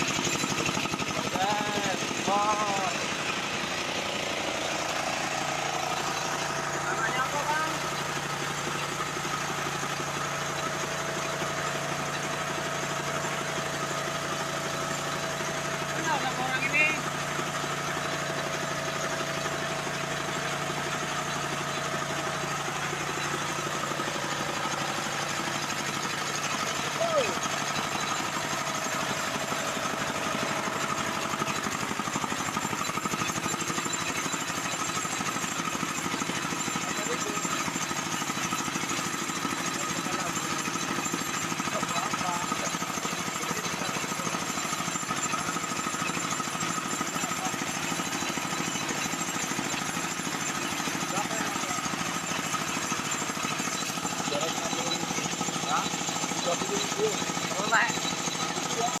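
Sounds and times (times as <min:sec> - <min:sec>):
small petrol engine running: 0:00.0 - 0:59.0.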